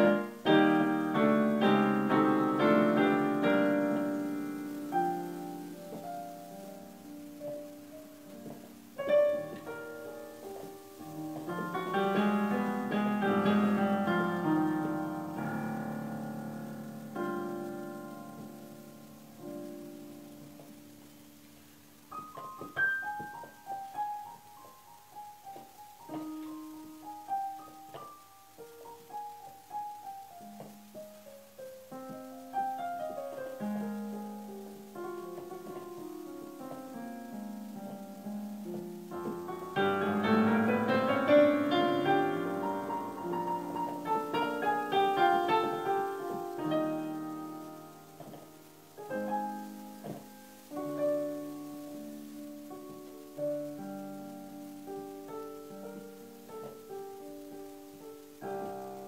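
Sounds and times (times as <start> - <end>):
slow solo piano music: 0.0 - 59.0.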